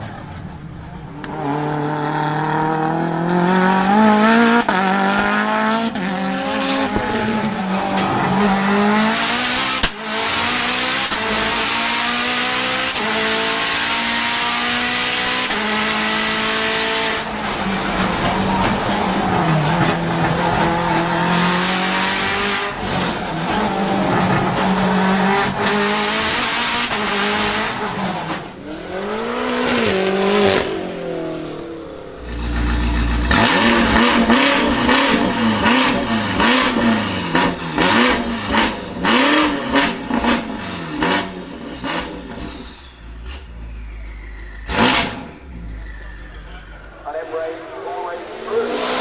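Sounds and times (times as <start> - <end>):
car engine revving in blips: 0.0 - 47.1
race car engine at high revs: 0.0 - 49.0.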